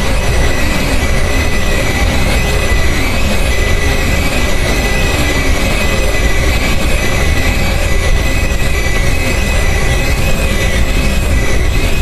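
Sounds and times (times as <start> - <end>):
high screeching tones: 0.0 - 12.0
wall of harsh noise: 0.0 - 12.0.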